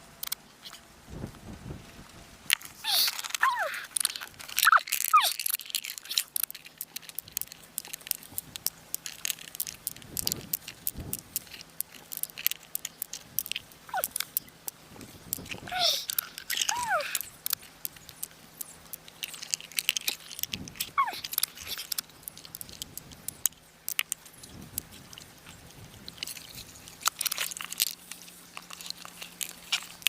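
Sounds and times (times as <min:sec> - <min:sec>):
small hard objects clicking: 0:02.5 - 0:30.0.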